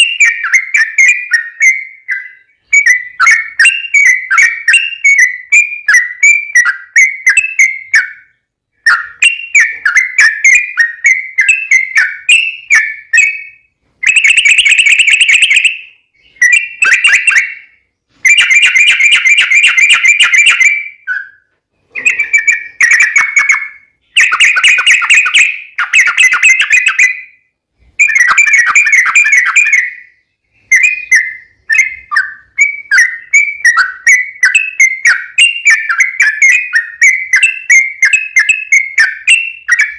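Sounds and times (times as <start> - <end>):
bulbul singing with rolling trills: 0.0 - 39.9.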